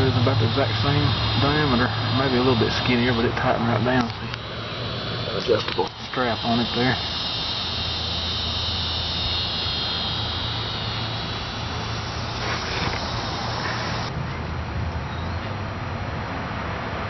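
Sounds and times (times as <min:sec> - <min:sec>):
high steady buzzing: 0:00.0 - 0:14.1
low outdoor background hum: 0:00.0 - 0:15.6.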